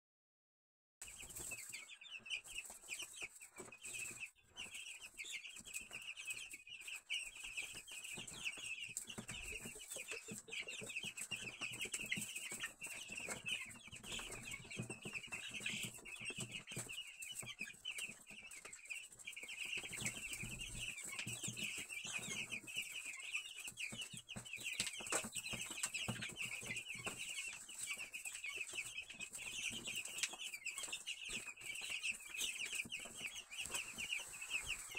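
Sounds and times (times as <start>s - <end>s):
chicks peeping: 1.0s - 34.9s.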